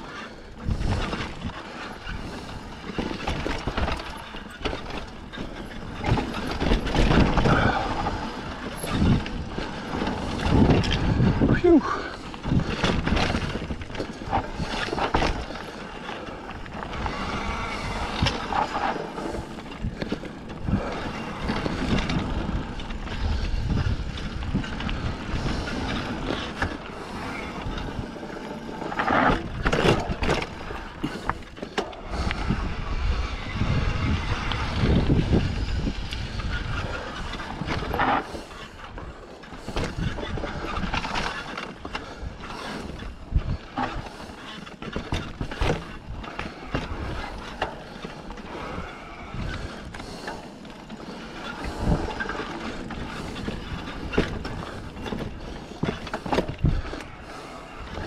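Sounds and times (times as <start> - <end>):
bike rattling over bumps: 0.0 - 58.0
bike tyres rolling over dirt: 0.0 - 58.0
wind rumbling on microphone: 0.0 - 58.0.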